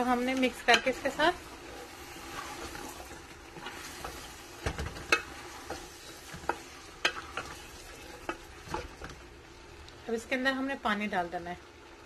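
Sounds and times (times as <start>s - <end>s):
wooden spoon stirring food in pot: 0.0s - 10.1s
oil sizzling faintly: 0.0s - 12.0s.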